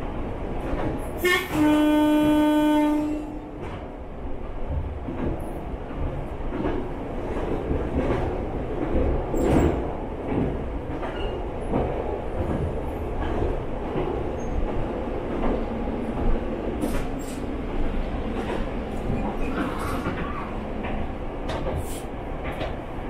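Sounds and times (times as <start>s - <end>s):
railcar engine and wheels rumbling: 0.0s - 23.0s.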